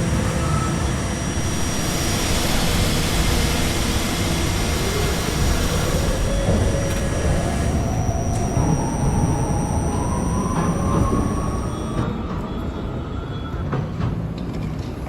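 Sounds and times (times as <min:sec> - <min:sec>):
thin high whine: 0:00.0 - 0:12.5
subway train rumbling: 0:00.0 - 0:15.0.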